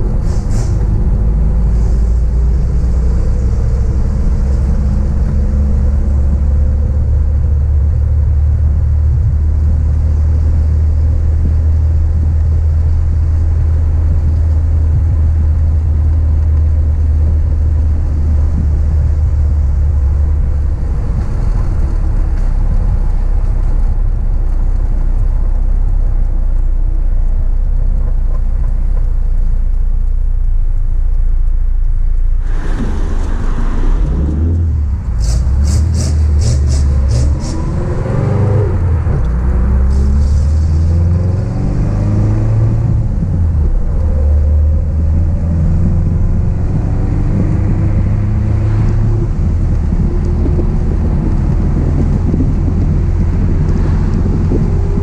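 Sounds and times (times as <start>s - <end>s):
car engine droning while driving: 0.0s - 55.0s.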